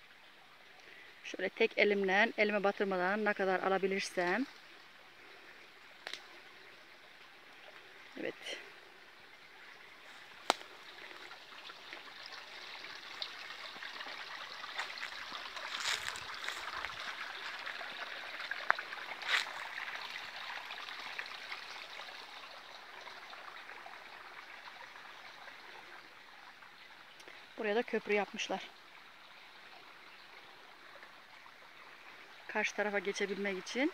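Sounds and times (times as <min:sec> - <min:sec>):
mountain stream babbling: 0:00.0 - 0:33.9.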